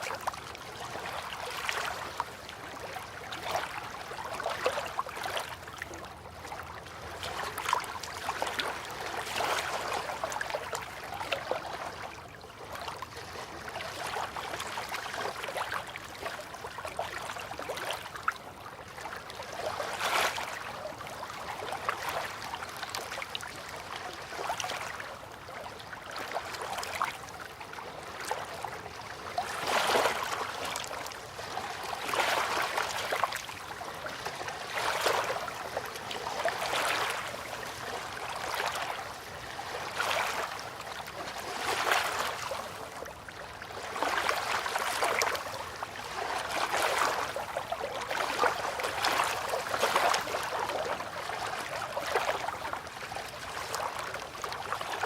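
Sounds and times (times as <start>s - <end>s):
river water lapping: 0.0s - 55.0s.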